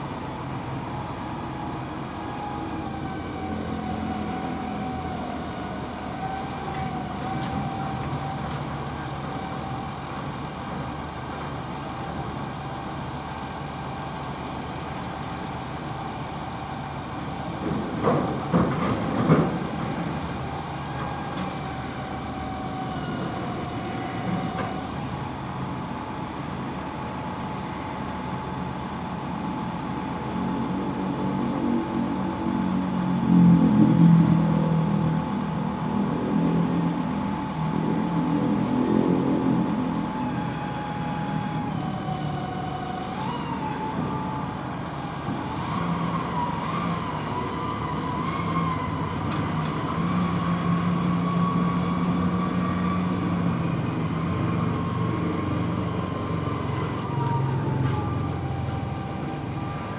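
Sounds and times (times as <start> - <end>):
heavy vehicle engine running: 0.0 - 59.9.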